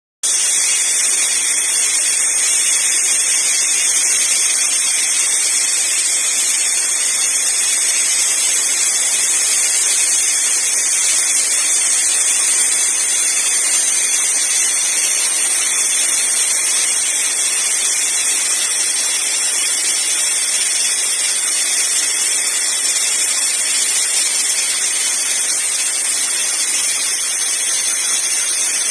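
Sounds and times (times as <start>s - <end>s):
welding machine high-pitched hiss: 0.2s - 28.9s.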